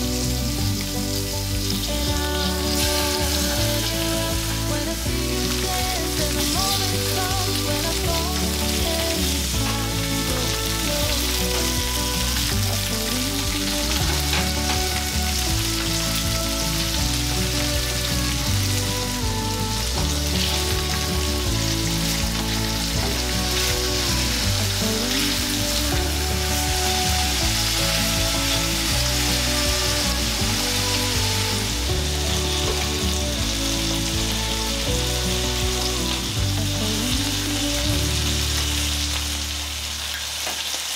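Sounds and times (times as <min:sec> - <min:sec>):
background music with chords: 0:00.0 - 0:40.2
chicken sizzling in frying pan: 0:00.0 - 0:40.9.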